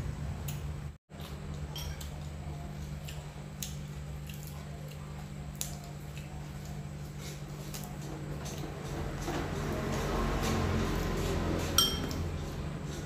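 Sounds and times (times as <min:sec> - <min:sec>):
steady low hum: 0:00.0 - 0:13.0
chewing: 0:00.4 - 0:13.0.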